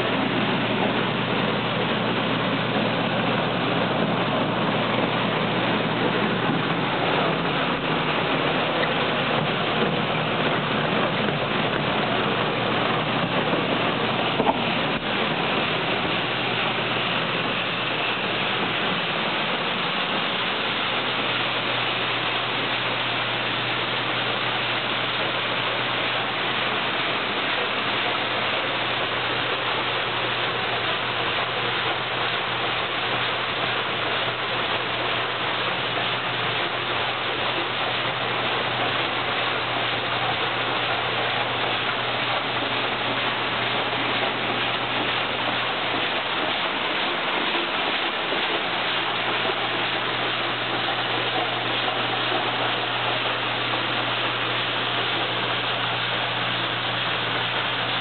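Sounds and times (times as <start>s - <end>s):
beans pouring with rushing hiss: 0.0s - 58.0s.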